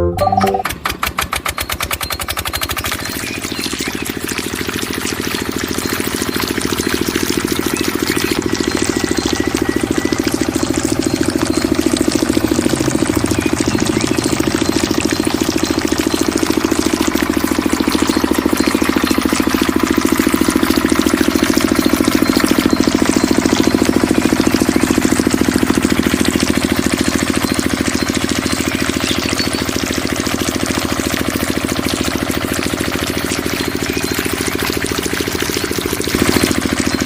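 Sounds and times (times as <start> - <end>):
small diesel engine knocking: 0.6 - 37.0.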